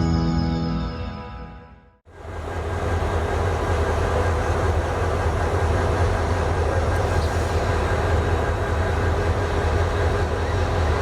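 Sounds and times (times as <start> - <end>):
diesel locomotive rumble: 2.1 - 11.0
train wheels on track: 2.1 - 11.0.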